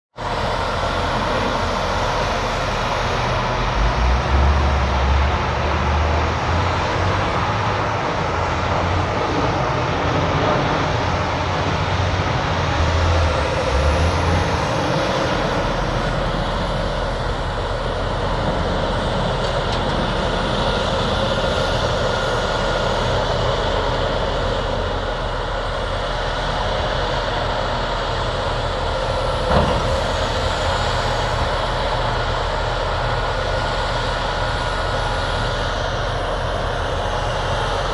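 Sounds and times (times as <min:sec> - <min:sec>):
diesel construction machinery running: 0:00.2 - 0:37.9.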